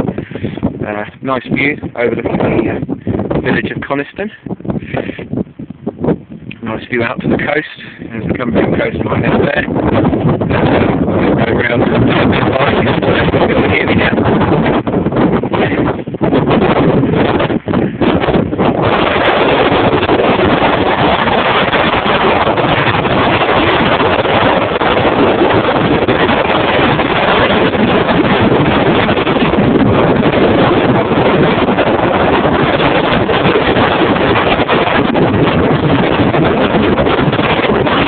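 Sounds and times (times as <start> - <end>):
wind blowing over microphone: 0.0 - 38.0.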